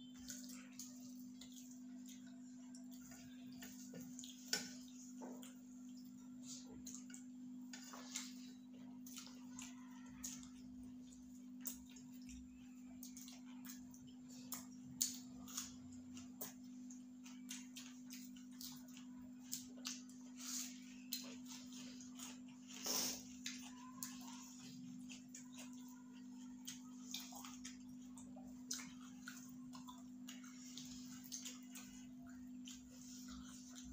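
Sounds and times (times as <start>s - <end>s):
chewing and smacking: 0.0s - 33.9s.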